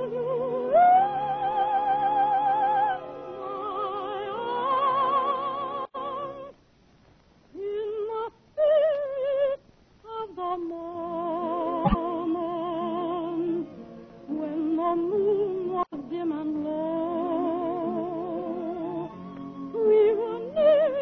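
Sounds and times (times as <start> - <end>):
woman singing soprano ballad: 0.0 - 6.5, 7.6 - 21.0.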